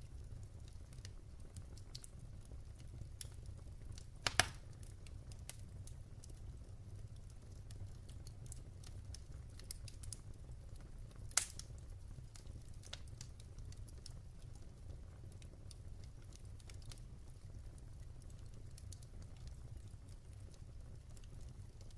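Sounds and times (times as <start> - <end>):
fire low rumble: 0.0 - 21.9
wood fire crackling and popping: 0.0 - 21.9.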